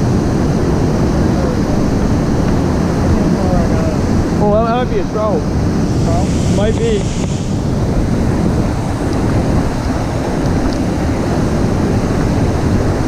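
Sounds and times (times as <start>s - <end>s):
white water rushing: 0.0s - 13.0s
wind buffeting microphone: 0.0s - 13.0s.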